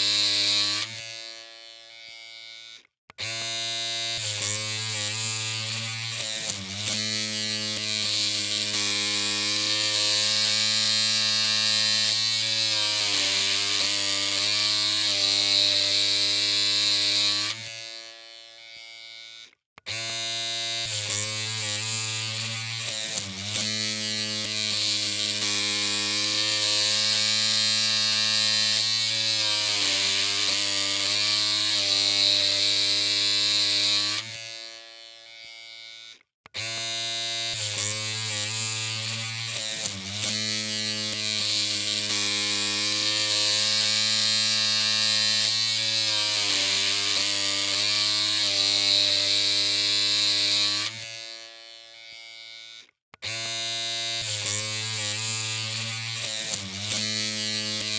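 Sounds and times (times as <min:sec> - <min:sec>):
electric hair clippers buzzing: 0:00.0 - 0:57.9.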